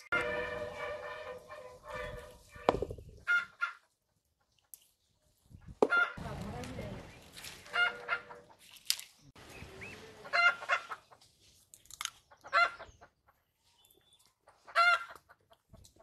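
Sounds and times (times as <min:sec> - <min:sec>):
chickens clucking: 0:00.1 - 0:06.2, 0:07.0 - 0:08.7, 0:09.4 - 0:16.0.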